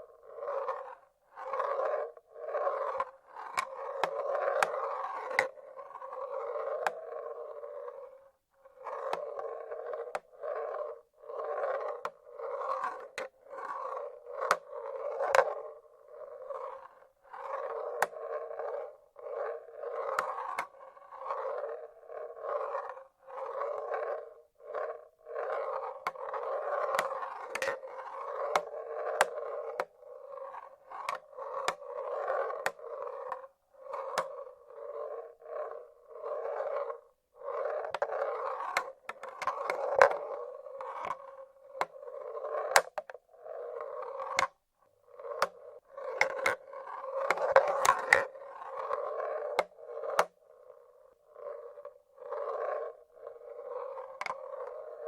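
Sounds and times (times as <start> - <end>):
marbles rolling on wooden tracks: 0.0 - 55.0.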